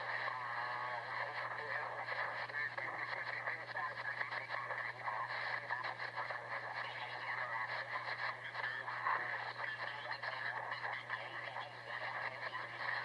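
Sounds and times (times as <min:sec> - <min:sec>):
garbled radio signal: 0:00.0 - 0:13.0.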